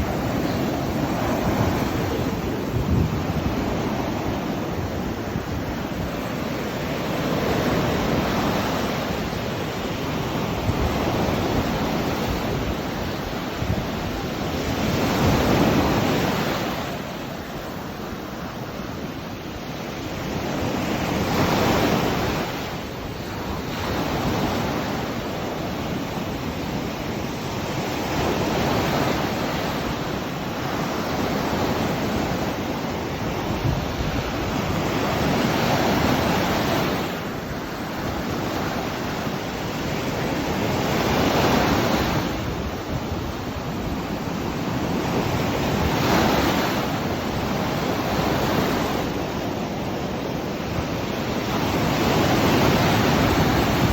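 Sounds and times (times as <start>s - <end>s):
sea waves breaking on beach: 0.0s - 53.9s
wind buffeting microphone: 0.0s - 53.9s.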